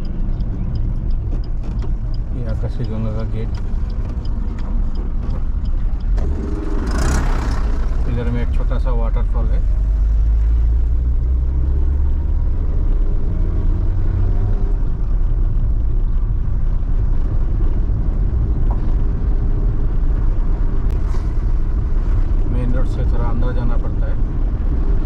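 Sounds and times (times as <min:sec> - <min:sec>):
van engine and road rumble: 0:00.0 - 0:25.0.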